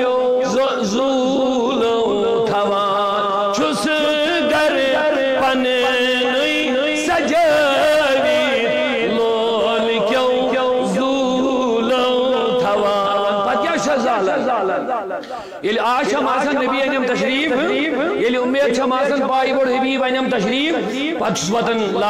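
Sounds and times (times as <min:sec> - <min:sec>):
man singing a chant: 0:00.0 - 0:22.0.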